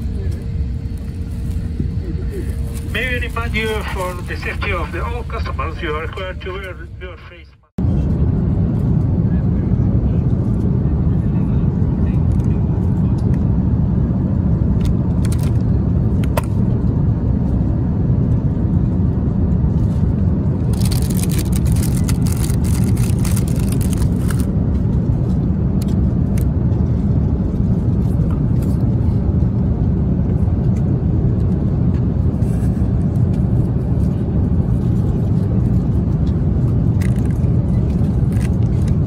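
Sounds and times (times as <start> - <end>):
airliner cabin drone: 0.0 - 39.0.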